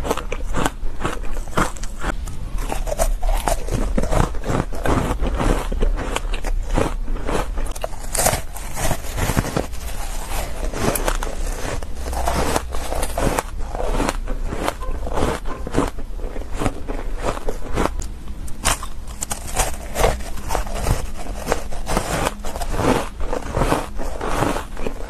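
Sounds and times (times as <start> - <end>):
shaved ice crunching: 0.0 - 25.0.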